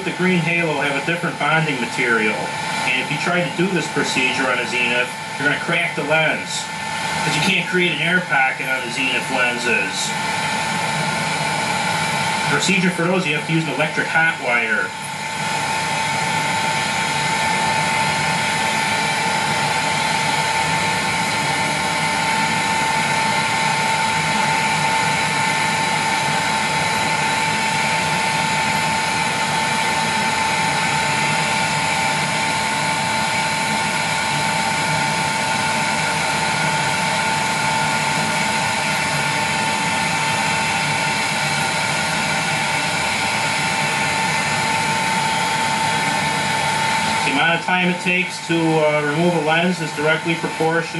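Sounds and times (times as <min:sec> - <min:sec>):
heat gun fan whining: 0:00.0 - 0:50.9.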